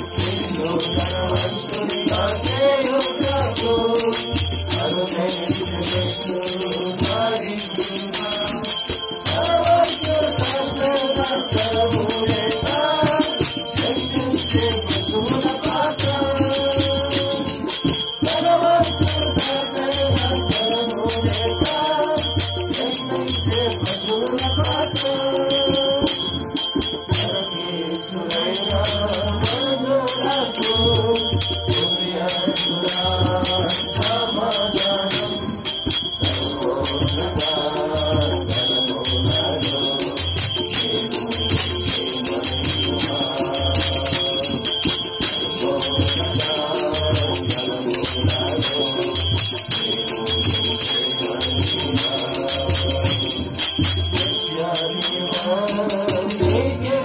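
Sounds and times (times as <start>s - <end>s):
hand drum beat: 0.0s - 57.0s
jingling hand percussion: 0.0s - 57.0s
men singing gospel song: 0.0s - 57.0s.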